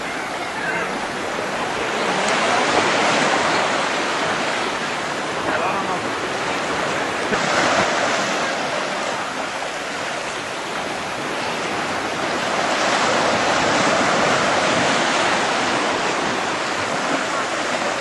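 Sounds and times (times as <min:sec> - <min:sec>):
ocean surf breaking on shore: 0:00.0 - 0:18.0.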